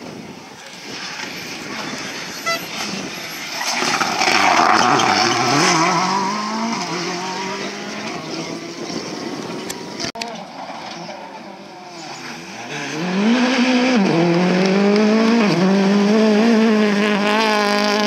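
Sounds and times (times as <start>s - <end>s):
rally car engine passing: 1.0s - 18.0s.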